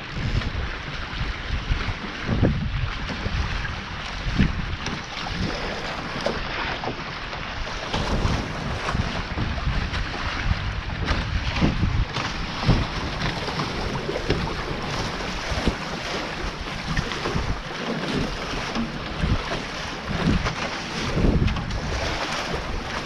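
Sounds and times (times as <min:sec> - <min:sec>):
water rushing along boat hulls: 0:00.0 - 0:23.0
wind buffeting microphone: 0:00.0 - 0:23.0.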